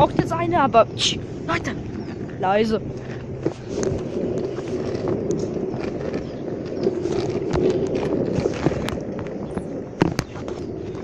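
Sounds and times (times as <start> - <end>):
longboard wheels rumbling on pavement: 0.0 - 11.0.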